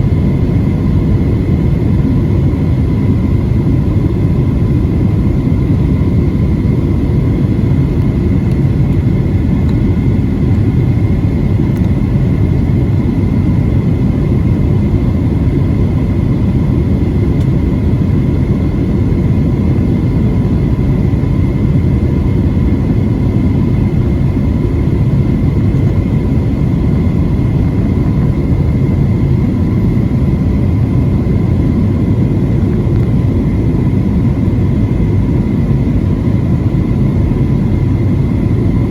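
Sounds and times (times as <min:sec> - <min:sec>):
airliner cabin engine rumble: 0:00.0 - 0:38.9
faint steady whine: 0:00.0 - 0:38.9.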